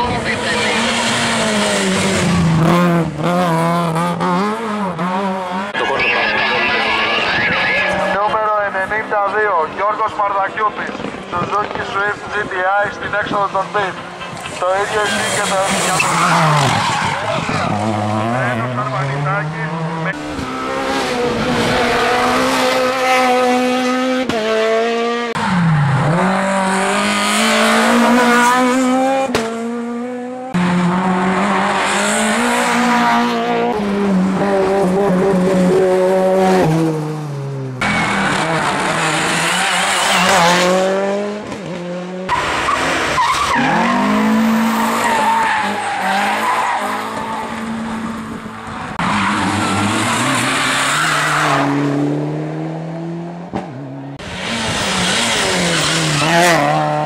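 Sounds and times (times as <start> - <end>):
race car engines revving high: 0.0 - 57.0.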